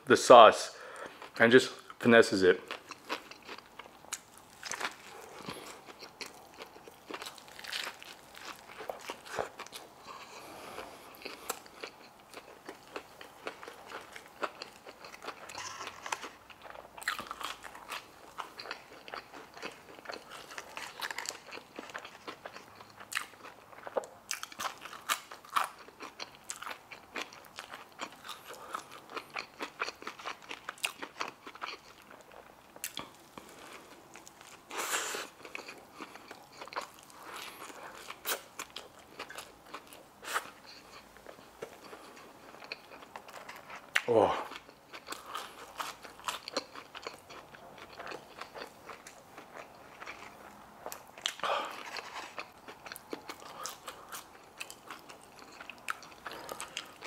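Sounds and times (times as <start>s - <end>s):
crunching fried food: 2.7s - 57.0s
quiet chewing: 2.7s - 57.0s.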